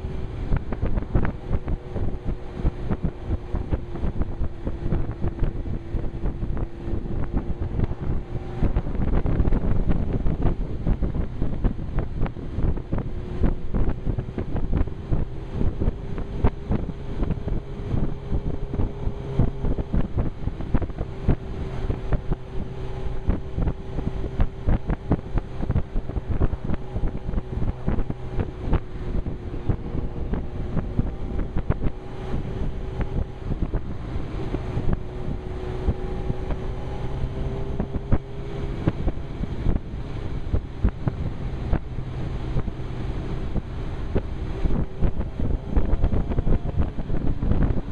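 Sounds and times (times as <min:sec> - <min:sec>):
motorbike engine humming: 0:00.0 - 0:47.9
wind buffeting microphone: 0:00.0 - 0:47.9.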